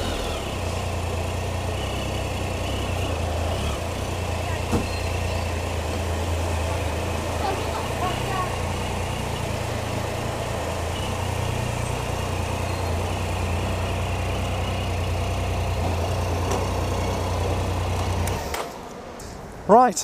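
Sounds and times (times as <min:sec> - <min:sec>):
motorcycle engine idling: 0:00.0 - 0:18.2.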